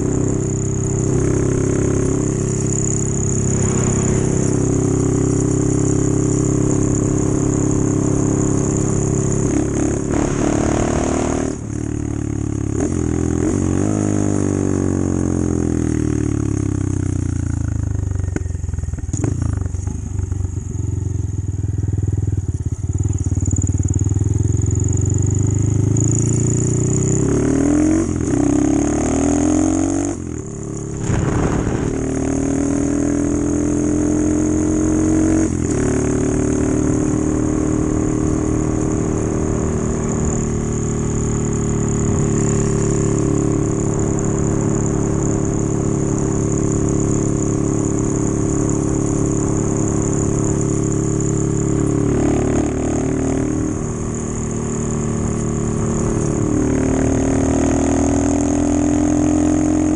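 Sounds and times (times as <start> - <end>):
small motorcycle engine accelerating: 0.0 - 59.9.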